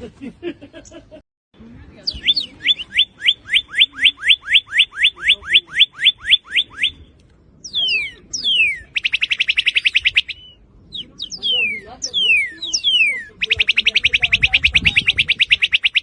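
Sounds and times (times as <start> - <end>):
cardinal singing whistles and trill: 2.1 - 16.0.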